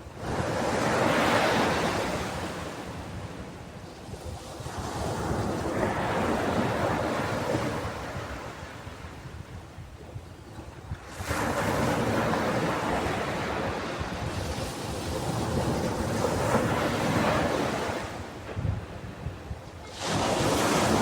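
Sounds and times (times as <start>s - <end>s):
ocean waves on a beach: 0.0s - 21.0s.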